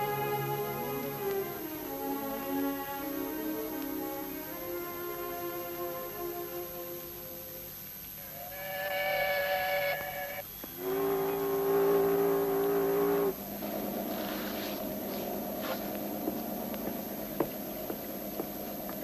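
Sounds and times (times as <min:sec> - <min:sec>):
horn tones: 0:00.0 - 0:17.9.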